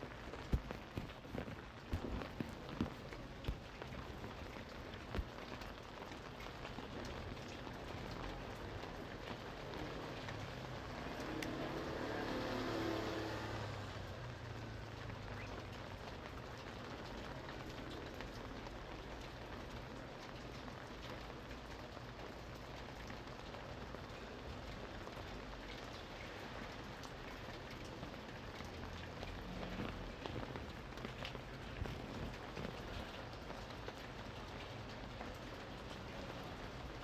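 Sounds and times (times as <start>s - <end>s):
sharp raindrops ticking: 0.0s - 37.0s
steady rain falling: 0.0s - 37.0s.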